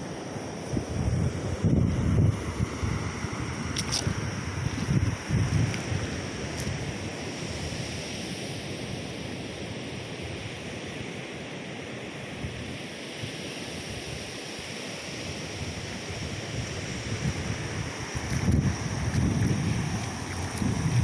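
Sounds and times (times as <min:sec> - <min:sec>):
wind gusting on microphone: 0:00.7 - 0:11.1, 0:12.3 - 0:21.0.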